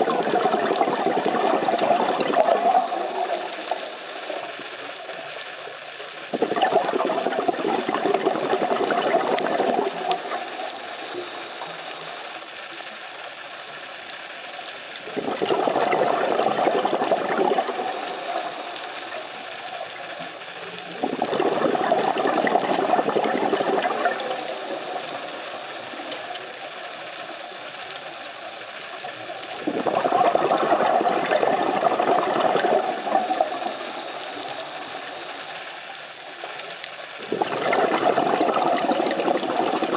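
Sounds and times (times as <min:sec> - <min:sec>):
quiet steady hiss: 0:00.0 - 0:39.9
underwater breath bubbles crackling: 0:00.0 - 0:39.9.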